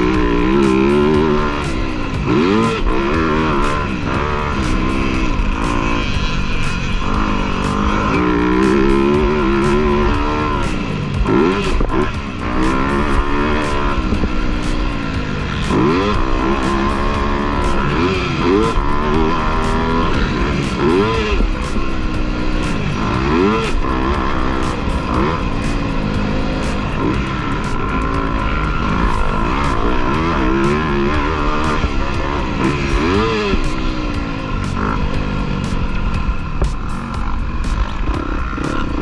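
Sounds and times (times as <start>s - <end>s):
dirt bike engines revving: 0.0s - 39.0s
music with steady beat: 0.0s - 39.0s.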